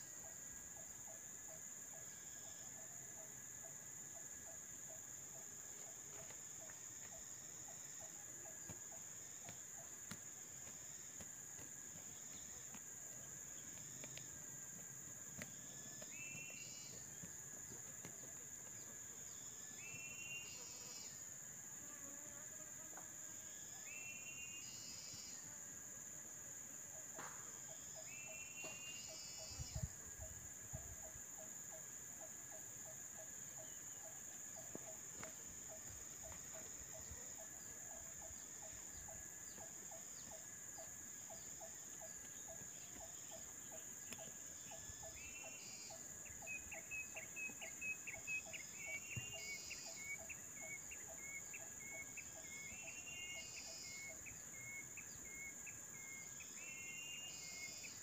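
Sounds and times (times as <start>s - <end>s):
crickets and insects droning: 0.0s - 58.0s.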